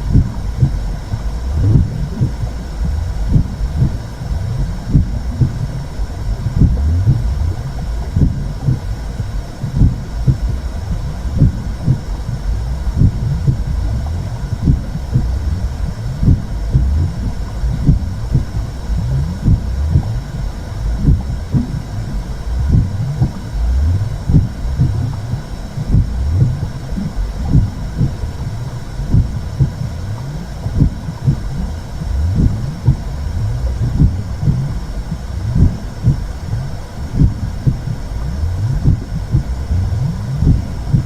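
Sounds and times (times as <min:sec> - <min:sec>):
heartbeat-like pulses: 0:00.0 - 0:41.0
muffled low rumble: 0:00.0 - 0:41.0.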